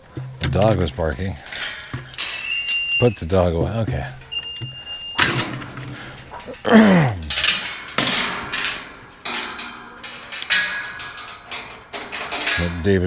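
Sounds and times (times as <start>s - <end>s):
metal gear clattering: 1.3s - 13.0s.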